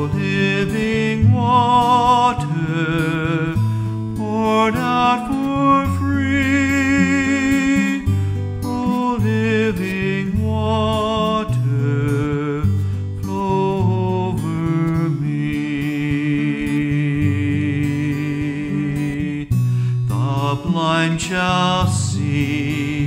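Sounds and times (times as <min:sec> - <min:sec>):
acoustic guitar: 0:00.0 - 0:23.0
man singing a hymn: 0:00.0 - 0:23.0.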